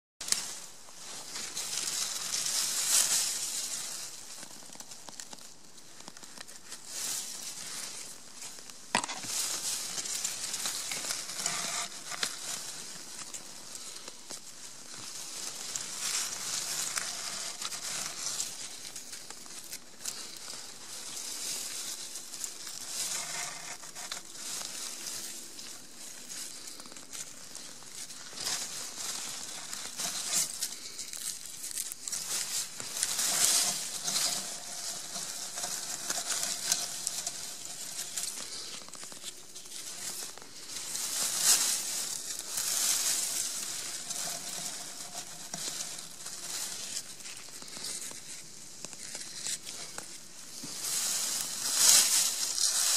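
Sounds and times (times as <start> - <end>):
dry grass and leaves rustling: 0.2 - 52.9.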